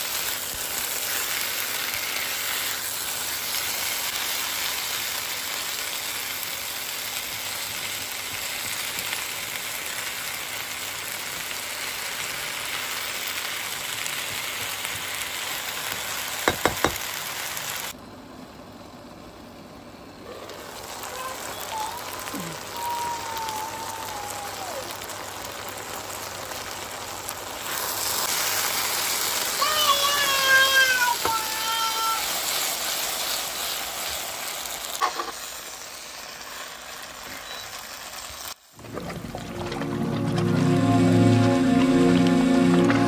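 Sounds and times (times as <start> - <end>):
vegetables sizzling in a wok: 0.0 - 43.0.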